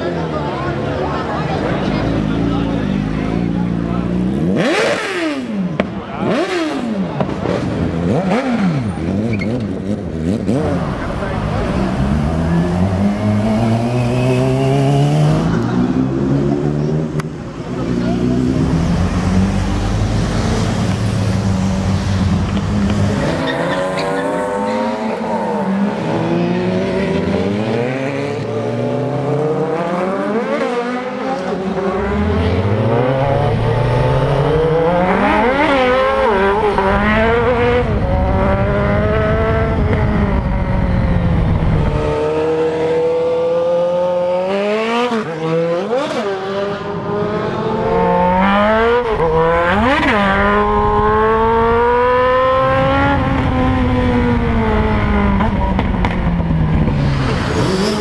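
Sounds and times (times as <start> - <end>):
motorcycle engine accelerating: 0.2 - 58.0.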